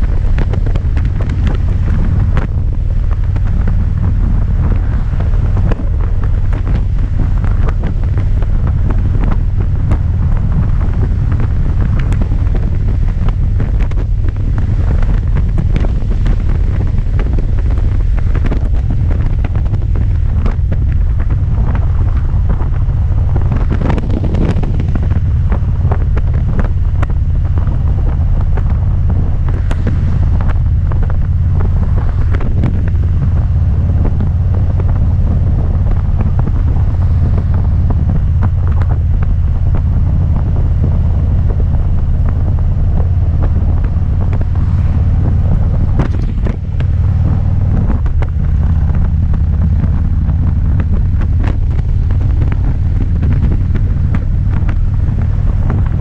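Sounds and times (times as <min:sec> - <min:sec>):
low motorcycle rumble: 0:00.0 - 0:56.0
wind buffeting microphone: 0:00.0 - 0:56.0.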